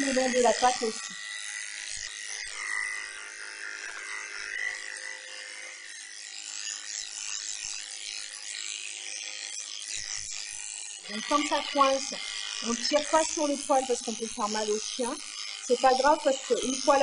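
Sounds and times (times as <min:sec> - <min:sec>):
electric clippers buzzing: 0:00.0 - 0:17.0.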